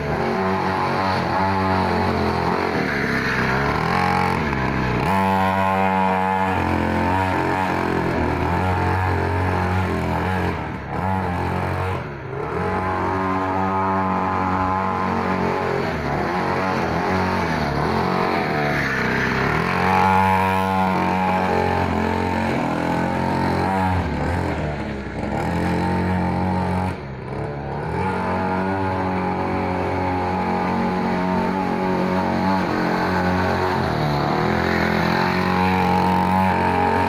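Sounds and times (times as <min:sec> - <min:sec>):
motorbike engine revving: 0:00.0 - 0:37.0.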